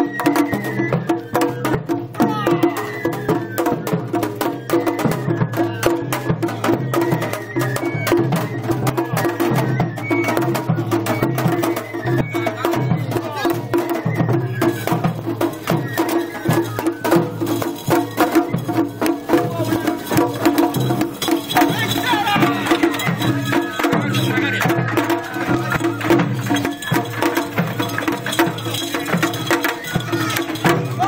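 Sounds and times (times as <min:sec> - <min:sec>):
taiko drums in fast rhythm: 0:00.0 - 0:31.0.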